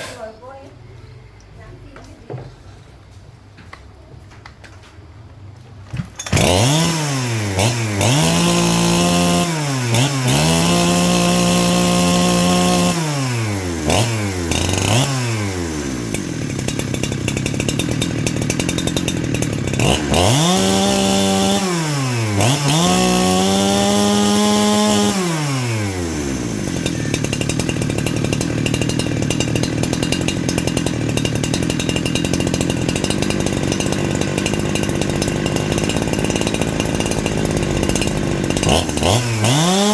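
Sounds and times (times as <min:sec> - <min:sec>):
chainsaw engine revving: 0:06.1 - 0:39.9.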